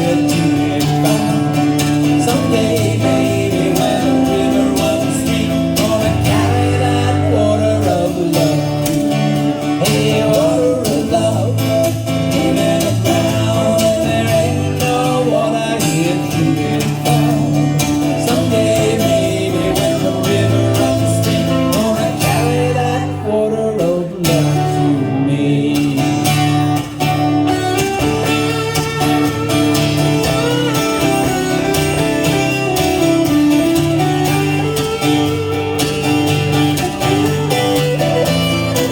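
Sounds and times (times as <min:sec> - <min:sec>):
bass line: 0:00.0 - 0:38.9
live band music: 0:00.0 - 0:38.9.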